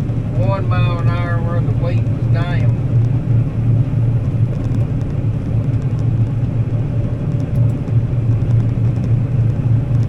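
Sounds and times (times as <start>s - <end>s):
combine harvester drone: 0.0s - 10.0s.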